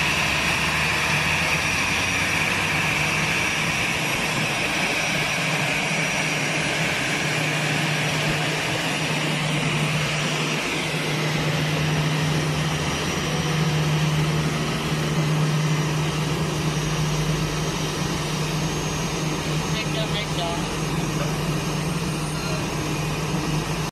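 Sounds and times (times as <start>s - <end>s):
jet engines idling: 0.0s - 23.9s.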